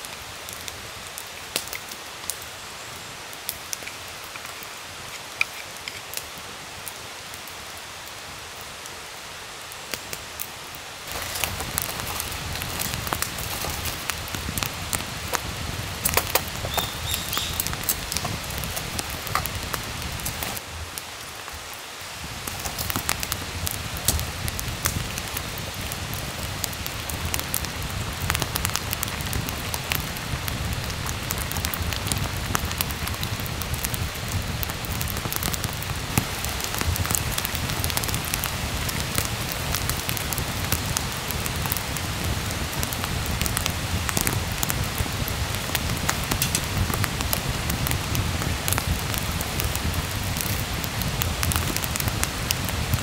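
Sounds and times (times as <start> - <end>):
steady rain patter: 0.0 - 53.0.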